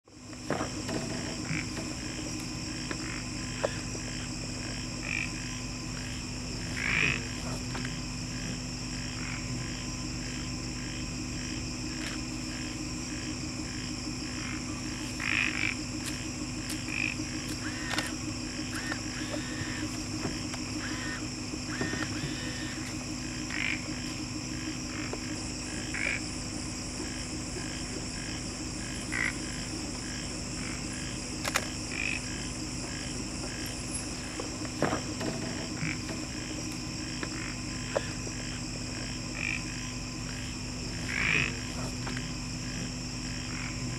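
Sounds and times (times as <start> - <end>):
high insect trill: 0.1 - 43.9
low pulsing frog chorus: 0.1 - 43.9
short frog calls: 0.2 - 43.9.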